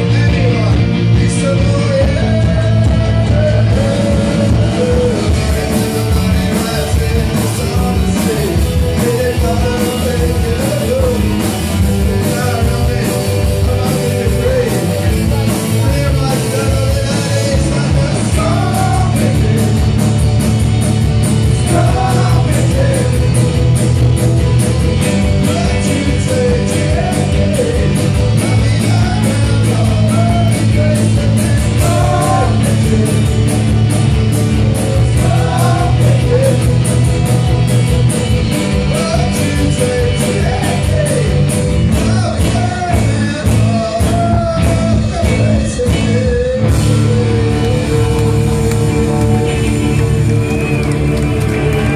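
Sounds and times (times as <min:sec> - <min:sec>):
man singing: 0:00.0 - 0:20.2, 0:21.5 - 0:23.5, 0:25.0 - 0:33.8, 0:34.4 - 0:37.3, 0:38.7 - 0:51.9
bass guitar: 0:00.0 - 0:51.9
drums with steady beat: 0:00.0 - 0:51.9
electric guitars: 0:00.0 - 0:51.9.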